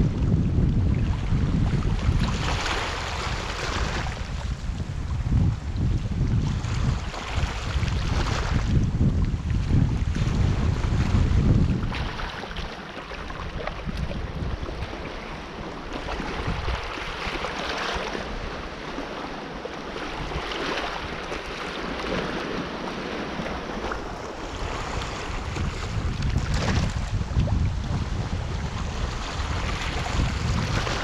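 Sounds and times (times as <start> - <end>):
sea waves washing in: 0.0 - 31.0
wind buffeting microphone: 0.0 - 31.0.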